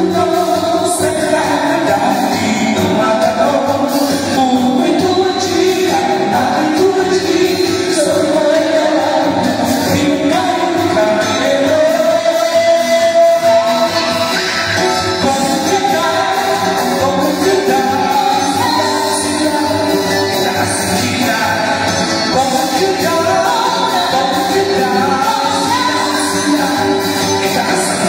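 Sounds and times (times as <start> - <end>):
pop song sung over pa system: 0.0 - 28.0.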